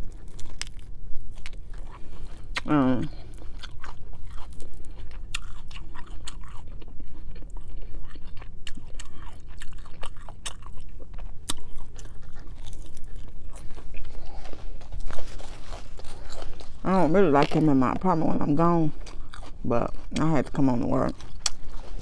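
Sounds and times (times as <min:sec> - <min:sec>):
wet chewing of lettuce: 0:00.0 - 0:22.0.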